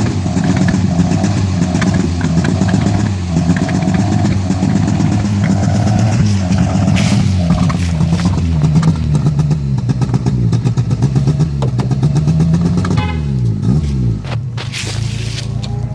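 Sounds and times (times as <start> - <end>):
engine revving: 0.0 - 15.9
exhaust popping and crackling: 0.0 - 15.9.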